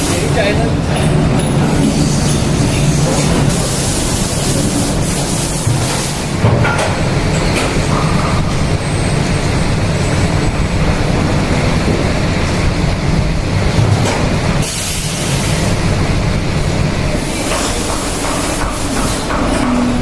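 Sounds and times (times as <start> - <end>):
machine rumbling: 0.0 - 20.0.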